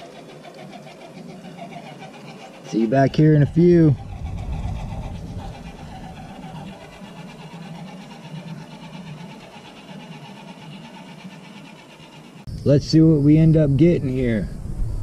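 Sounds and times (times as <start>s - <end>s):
toy truck electric motor whining: 0.0s - 12.5s.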